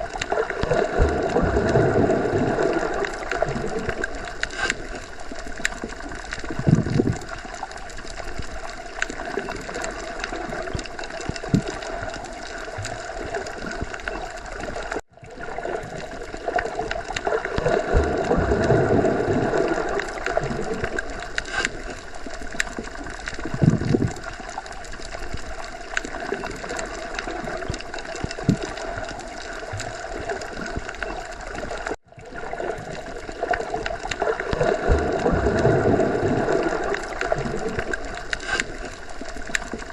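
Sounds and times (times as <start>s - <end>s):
muffled underwater water wash: 0.0s - 39.9s
water gurgling and surging: 0.0s - 39.9s.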